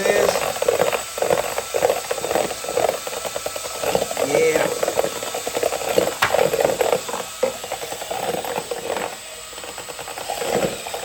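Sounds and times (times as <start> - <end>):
drill mixing paddle churning paint: 0.0 - 11.0.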